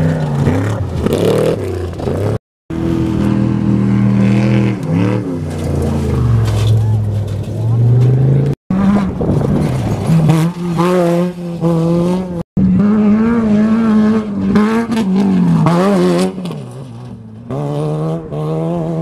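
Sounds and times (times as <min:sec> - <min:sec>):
race engines at full throttle: 0:00.0 - 0:19.0.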